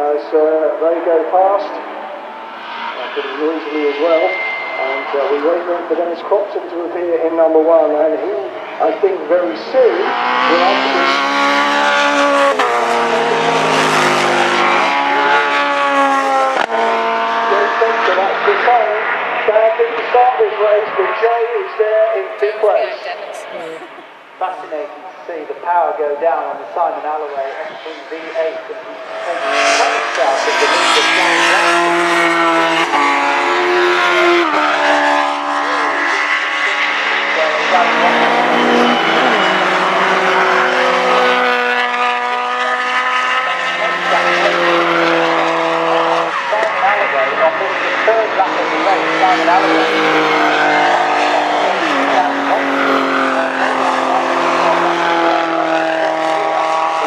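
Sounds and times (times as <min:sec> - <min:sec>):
racing car engines at high revs: 0:00.0 - 0:57.0.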